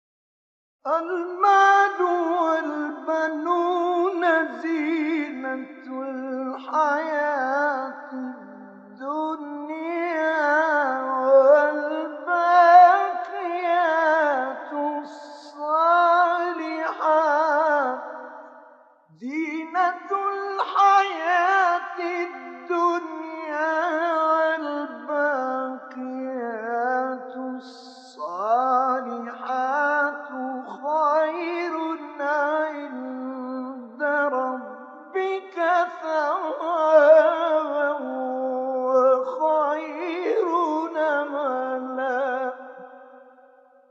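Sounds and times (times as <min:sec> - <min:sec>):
man reciting melodically: 0:00.9 - 0:18.5, 0:19.1 - 0:43.1.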